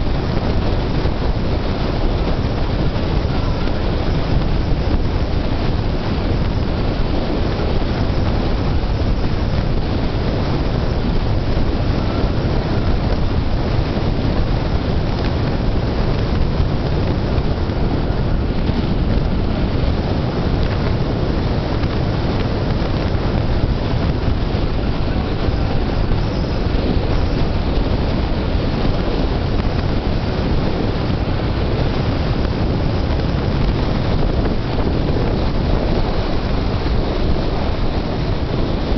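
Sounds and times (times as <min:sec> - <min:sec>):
car road and engine noise: 0:00.0 - 0:38.9
wind rushing over microphone: 0:00.0 - 0:38.9.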